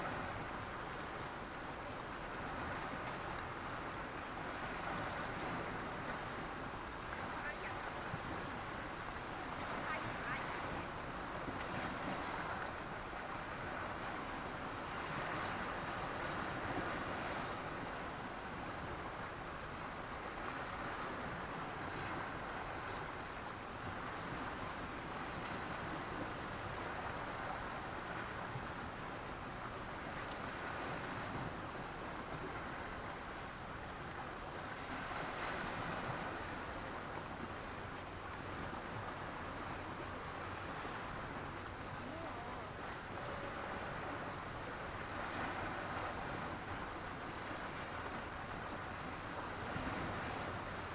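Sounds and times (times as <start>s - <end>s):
sea waves breaking on a beach: 0.0s - 50.9s.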